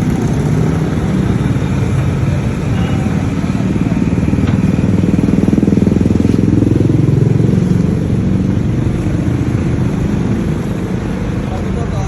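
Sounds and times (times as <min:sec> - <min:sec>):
heavy engine running: 0:00.0 - 0:12.0.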